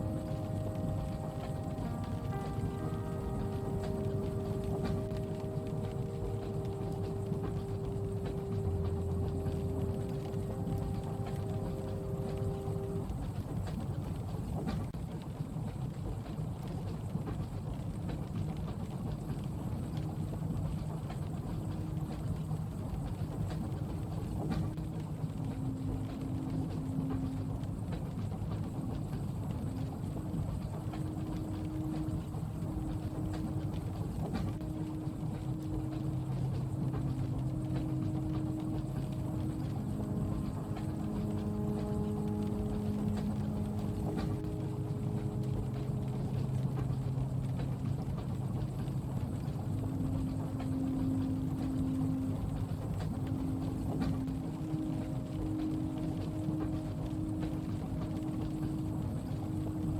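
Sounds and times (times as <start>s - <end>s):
faint hum: 0.0s - 15.0s, 16.0s - 59.9s
train carriage rumbling: 0.0s - 59.9s.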